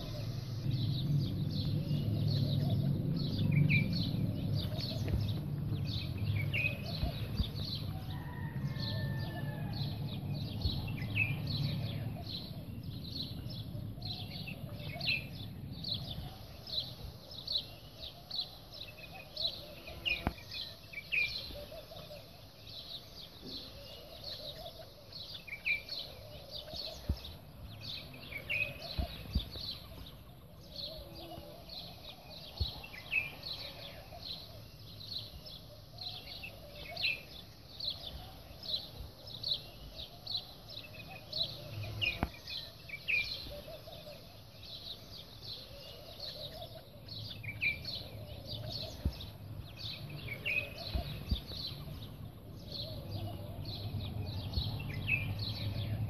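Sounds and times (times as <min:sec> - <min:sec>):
pigeons cooing: 0:00.0 - 0:12.7, 0:13.4 - 0:56.0
small birds chirping: 0:00.0 - 0:56.0.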